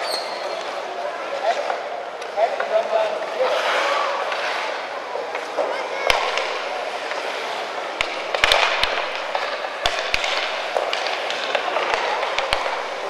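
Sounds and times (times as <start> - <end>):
hockey sticks and pucks clacking: 0.0 - 13.0
skates scraping on ice: 0.0 - 13.0.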